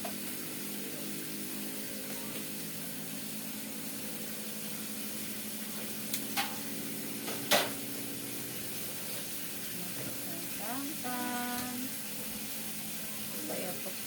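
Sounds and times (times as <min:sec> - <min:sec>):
pot cooking hiss and hum: 0:00.0 - 0:14.0.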